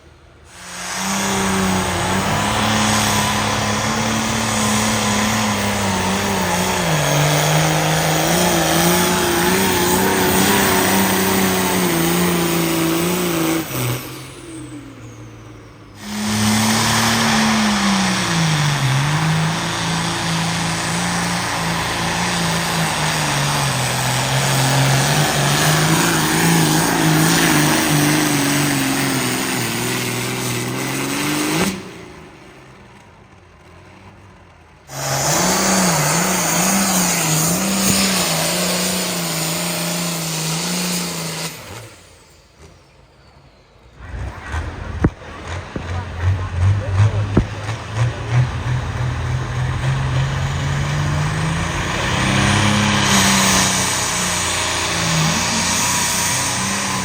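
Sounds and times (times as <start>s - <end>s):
pulling vehicle engine at high revs: 0.0s - 57.0s.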